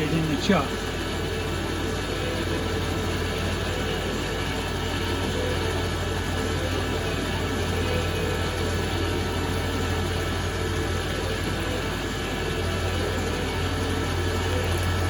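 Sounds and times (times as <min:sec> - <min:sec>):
lathe humming: 0:00.0 - 0:15.0.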